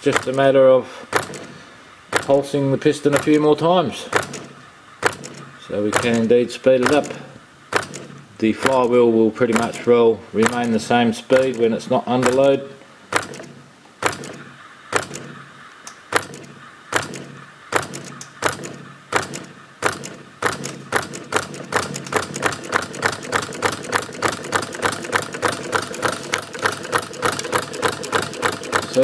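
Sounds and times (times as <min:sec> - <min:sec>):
coil piston sharp clacks: 0:00.0 - 0:29.0.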